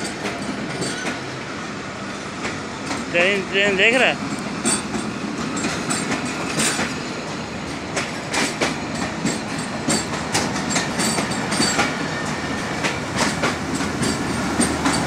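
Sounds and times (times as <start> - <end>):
train coaches rumbling: 0.0 - 15.0.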